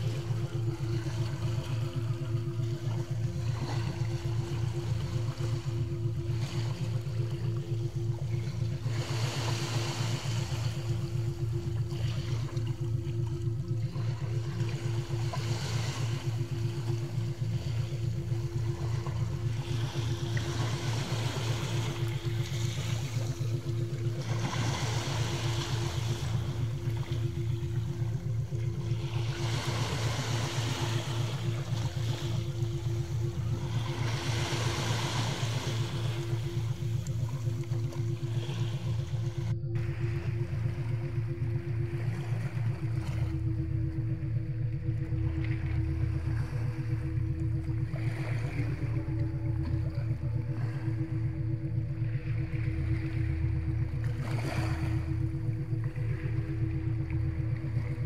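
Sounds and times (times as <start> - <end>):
low electronic tone: 0.0 - 58.0.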